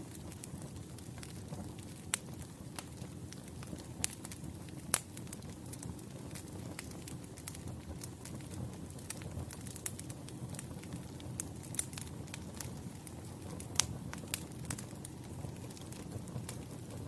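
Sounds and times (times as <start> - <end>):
campfire flames rumbling: 0.0 - 17.0
logs crackling and popping: 0.0 - 17.0.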